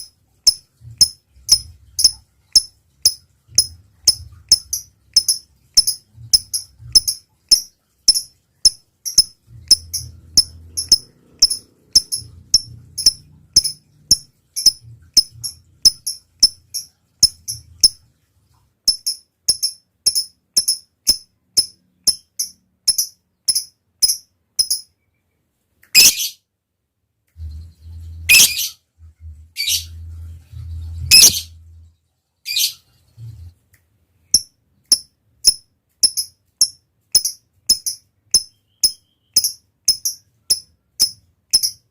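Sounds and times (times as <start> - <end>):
bird chirping: 0.0 - 26.4, 27.4 - 33.6, 34.2 - 41.9.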